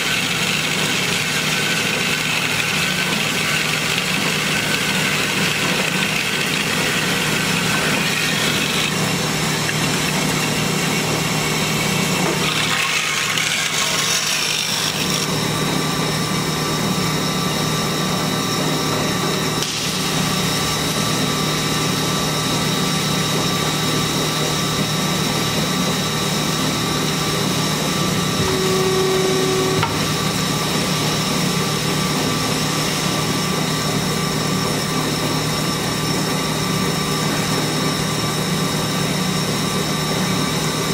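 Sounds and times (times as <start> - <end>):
band saw motor hum: 0.0 - 40.9
high whine of blade cutting: 0.0 - 40.9.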